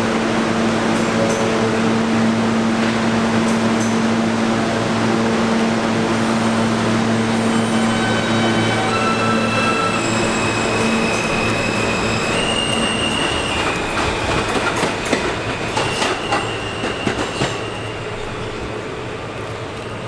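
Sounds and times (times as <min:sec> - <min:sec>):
train propulsion whining: 0:00.7 - 0:20.0.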